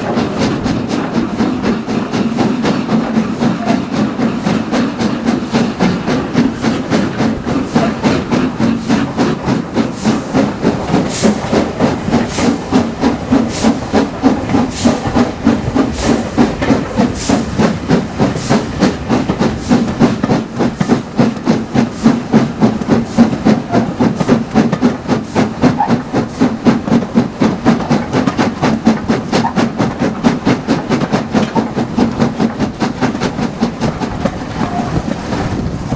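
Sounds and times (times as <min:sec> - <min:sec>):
steam hissing: 0:00.0 - 0:35.9
steam locomotive chuffing: 0:00.0 - 0:35.9.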